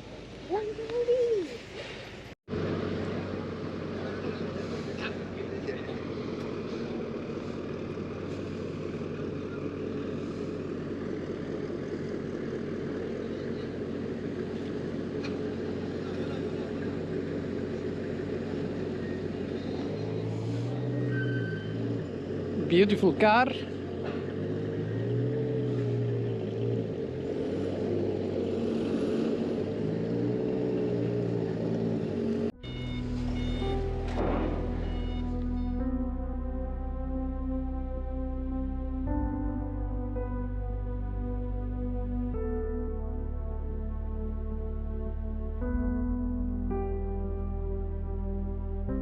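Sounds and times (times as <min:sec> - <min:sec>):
engine drone: 0:01.8 - 0:49.0.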